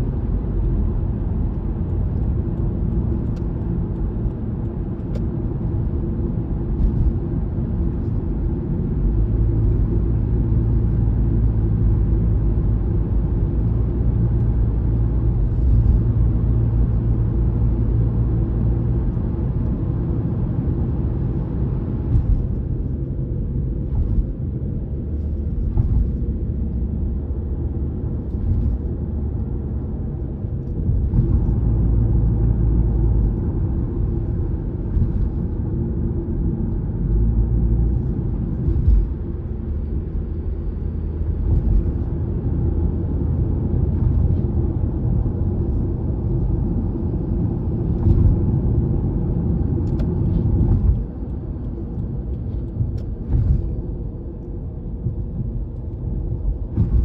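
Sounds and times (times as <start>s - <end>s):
tyres rumbling on road: 0.0s - 57.0s.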